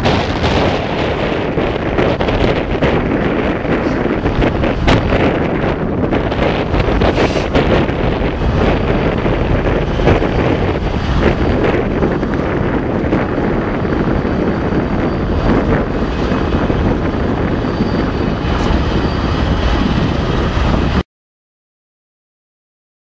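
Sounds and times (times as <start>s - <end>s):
train passing rumble: 0.0s - 21.0s
wind buffeting microphone: 0.0s - 21.0s.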